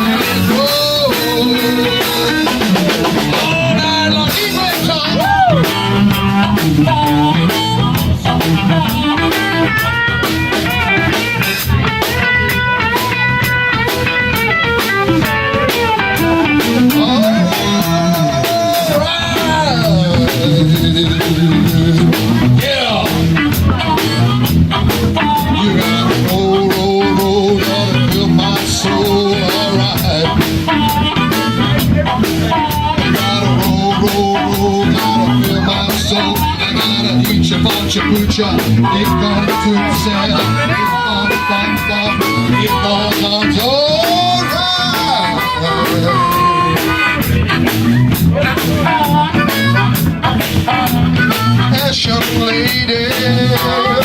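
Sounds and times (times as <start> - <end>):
drum kit steady beat: 0.0 - 54.0
lead guitar with bent notes: 0.0 - 54.0.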